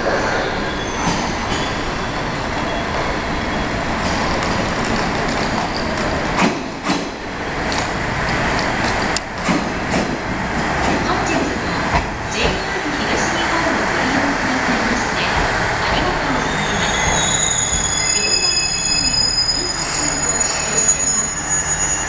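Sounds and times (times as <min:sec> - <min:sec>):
diesel railcar rumbling: 0:00.0 - 0:22.0.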